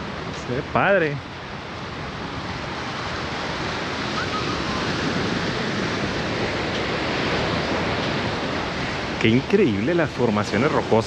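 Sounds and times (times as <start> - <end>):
ocean surf on rocky shore: 0.0 - 11.0.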